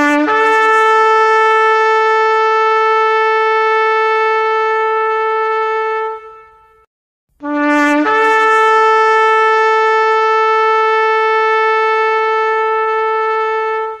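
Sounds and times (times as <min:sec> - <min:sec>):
long horn blasts: 0:00.0 - 0:14.0.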